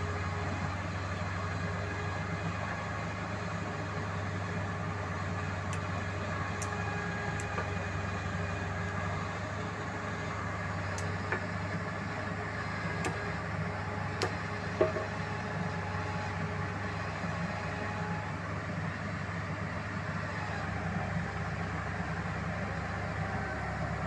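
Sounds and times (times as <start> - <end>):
heavy machine engine running: 0.0 - 24.0.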